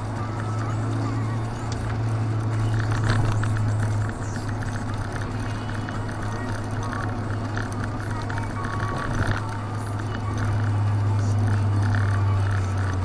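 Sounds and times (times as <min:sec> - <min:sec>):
car engine drone: 0:00.0 - 0:13.0
tyre and road noise: 0:00.0 - 0:13.0.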